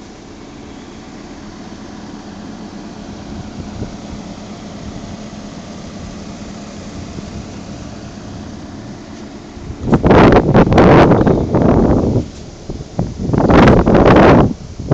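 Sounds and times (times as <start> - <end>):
excavator engine humming: 0.0 - 14.9.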